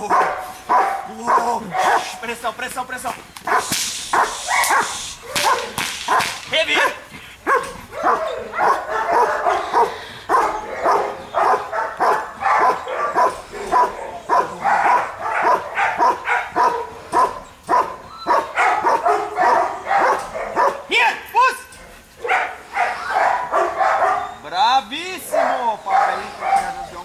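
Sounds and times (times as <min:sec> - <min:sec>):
dog barking: 0:00.0 - 0:02.2, 0:03.5 - 0:20.9, 0:22.2 - 0:24.4, 0:25.2 - 0:26.9.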